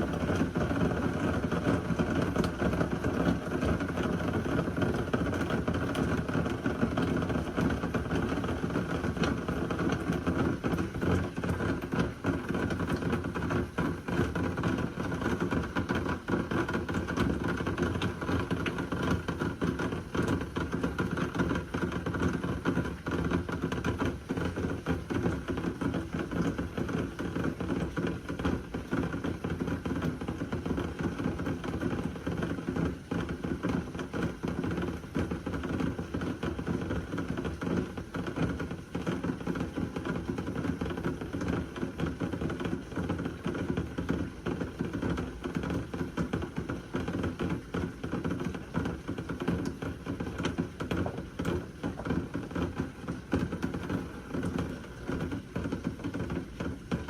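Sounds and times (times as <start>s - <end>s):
heavy rain on hard surface: 0.0s - 57.0s.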